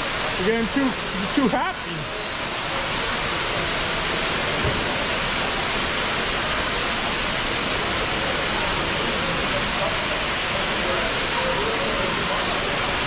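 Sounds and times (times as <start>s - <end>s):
fountain spraying water onto pool: 0.0s - 13.0s.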